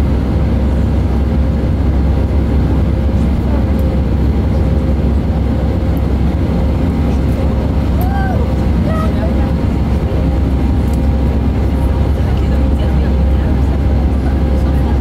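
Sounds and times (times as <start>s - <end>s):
deep cabin engine rumble: 0.0s - 15.0s
faint constant hum: 0.0s - 15.0s.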